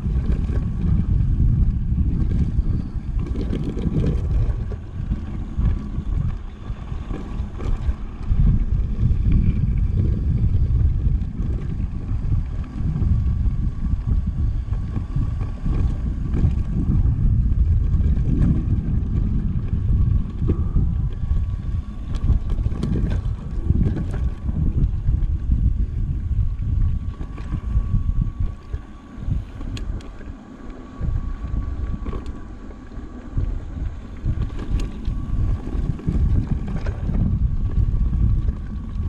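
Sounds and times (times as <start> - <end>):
bike rolling on dirt trail: 0.0 - 39.0
wind buffeting microphone: 0.0 - 39.0.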